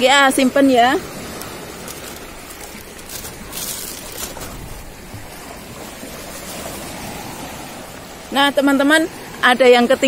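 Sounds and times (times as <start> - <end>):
small waves on sandy shore: 0.0 - 10.0.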